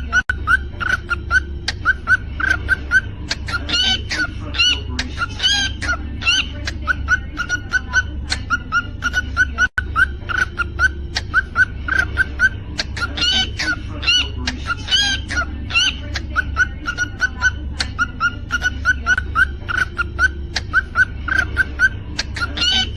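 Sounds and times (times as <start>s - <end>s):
cockatiel chirping and whistling: 0.0s - 22.9s
steady low hum: 0.0s - 22.9s.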